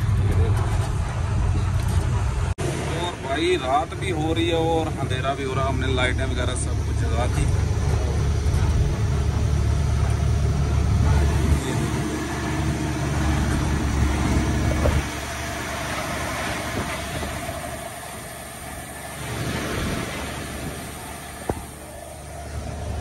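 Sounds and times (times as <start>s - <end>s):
truck engine and road noise: 0.0s - 23.0s.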